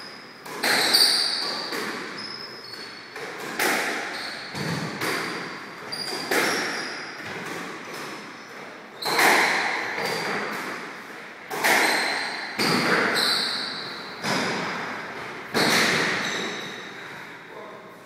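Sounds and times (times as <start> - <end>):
shoe squeaks: 0.0 - 3.2, 3.9 - 10.5, 11.8 - 17.4
squash ball hitting rackets and walls: 0.0 - 17.4.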